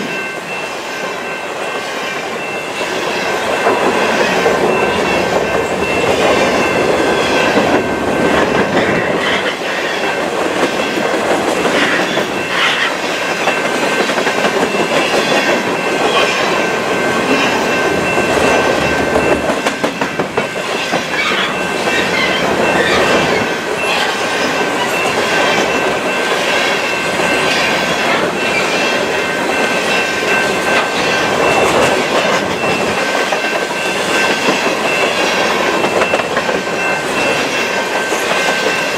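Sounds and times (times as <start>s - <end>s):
high wheel squeal on rail: 0.0s - 38.9s
train wheels clicking over rail joints: 2.2s - 38.9s.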